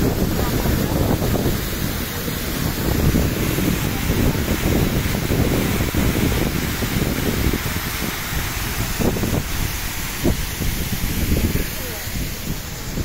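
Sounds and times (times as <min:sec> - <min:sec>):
water roaring over weir: 0:00.0 - 0:13.0
wind rumble on microphone: 0:00.0 - 0:13.0.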